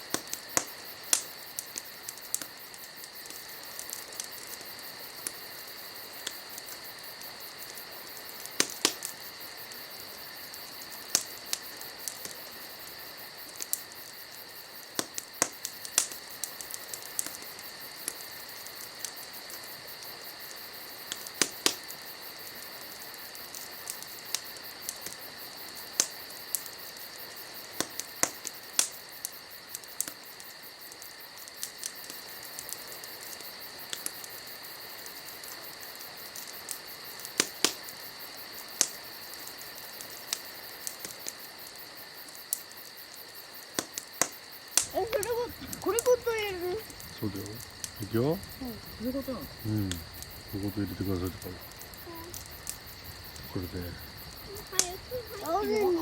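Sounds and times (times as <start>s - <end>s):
campfire crackling: 0.0s - 56.0s
high-pitched insect chorus: 0.0s - 56.0s.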